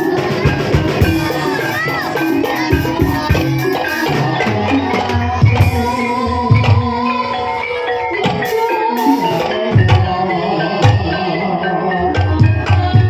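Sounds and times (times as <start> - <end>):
ringing metallophone notes: 0.0 - 13.0.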